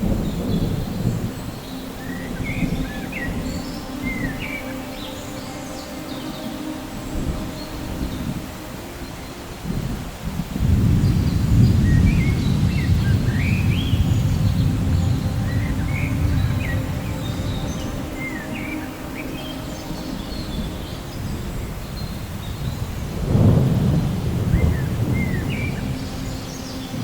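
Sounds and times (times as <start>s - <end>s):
thunder rumbling: 0.0s - 4.6s, 9.5s - 27.0s
birds chirping: 0.0s - 27.0s
rain hissing: 0.0s - 27.0s.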